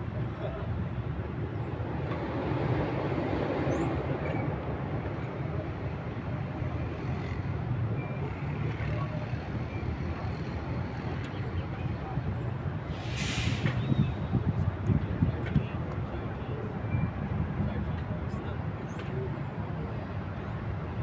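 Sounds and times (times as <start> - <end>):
city road traffic rumble: 0.0 - 21.0.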